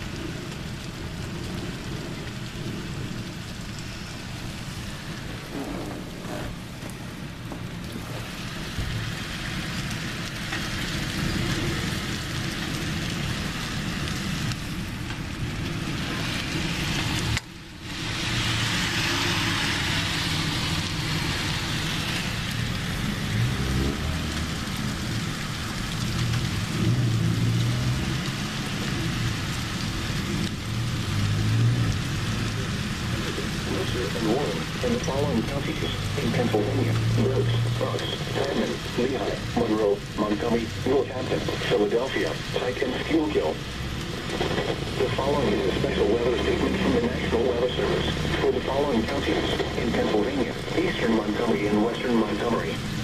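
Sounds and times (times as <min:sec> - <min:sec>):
low thunder rumbling: 0:00.0 - 0:51.2
rain falling steadily: 0:00.0 - 0:53.0.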